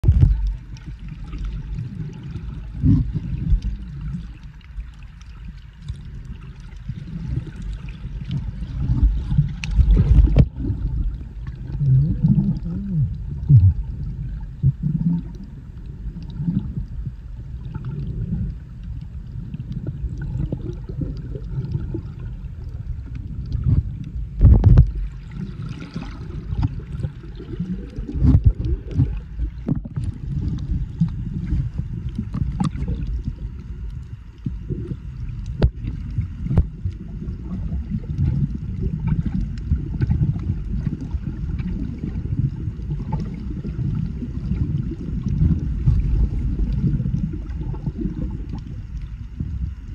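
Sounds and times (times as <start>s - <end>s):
muffled underwater water rumble: 0.0s - 49.9s.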